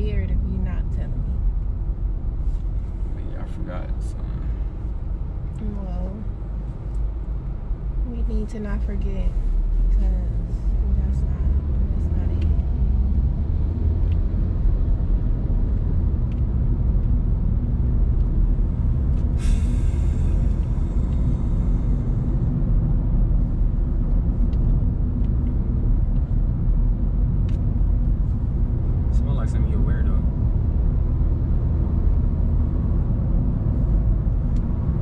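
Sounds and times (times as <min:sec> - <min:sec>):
car cabin road rumble: 0:00.0 - 0:35.0.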